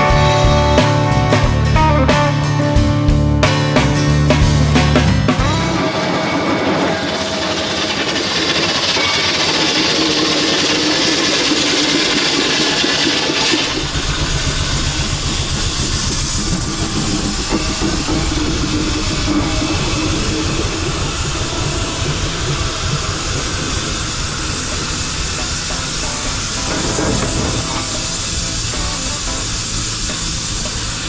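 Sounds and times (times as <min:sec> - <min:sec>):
deep fluttering engine rumble: 0:00.0 - 0:31.0
steam hissing: 0:03.7 - 0:31.0.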